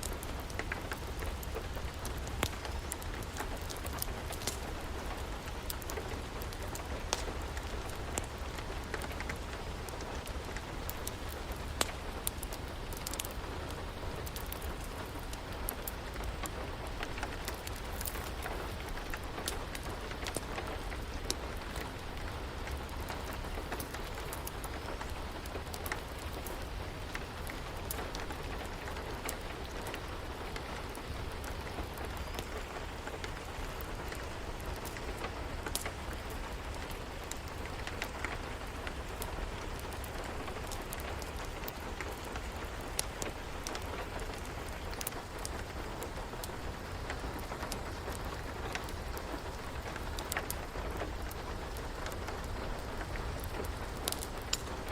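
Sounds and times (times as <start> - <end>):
steady rain falling: 0.0 - 54.9
wood fire crackling: 0.0 - 54.9.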